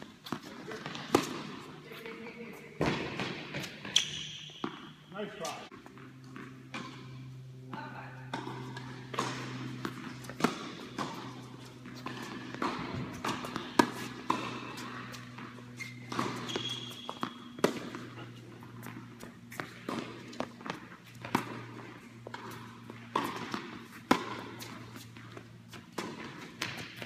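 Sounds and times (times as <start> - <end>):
tennis balls struck by rackets: 0.0 - 2.1, 2.8 - 27.0
low hum in hall: 0.0 - 27.0
balls bouncing on hard court: 0.2 - 27.0.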